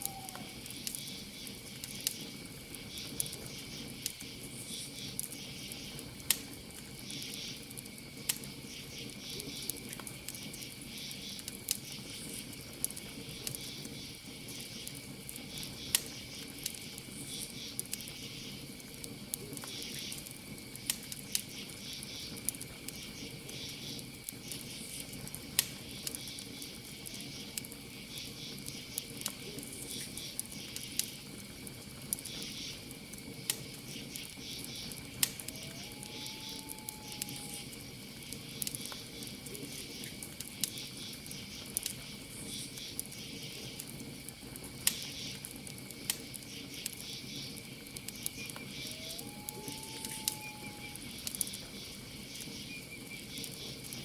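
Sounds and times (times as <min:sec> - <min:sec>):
campfire crackling and popping: 0:00.0 - 0:54.0
cricket trill: 0:00.0 - 0:54.0.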